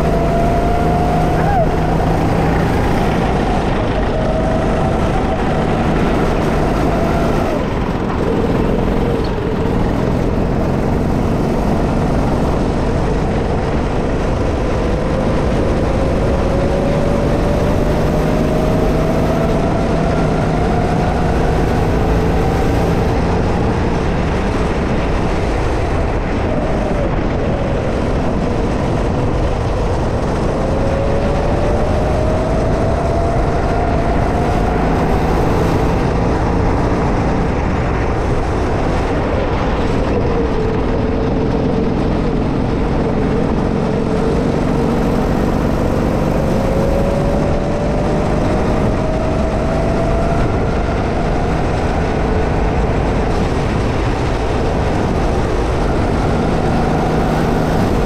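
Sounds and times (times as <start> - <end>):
heavy constant rumble: 0.0 - 58.0.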